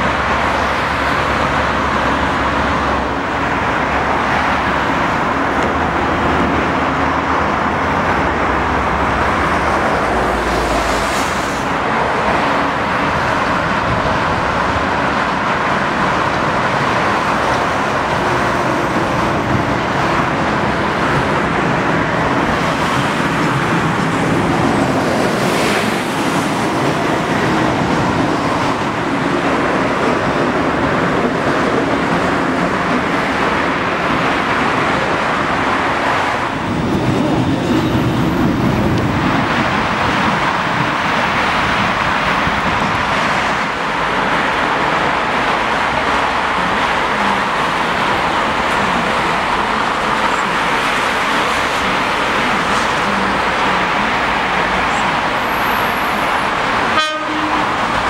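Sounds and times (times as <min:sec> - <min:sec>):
cars whooshing past: 0:00.0 - 0:53.9
road traffic: 0:00.0 - 0:58.0.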